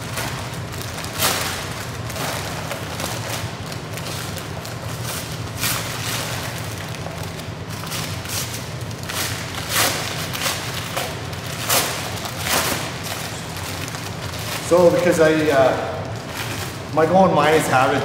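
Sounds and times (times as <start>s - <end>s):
packing paper tearing: 0.0s - 18.0s
steady low hum: 0.0s - 18.0s.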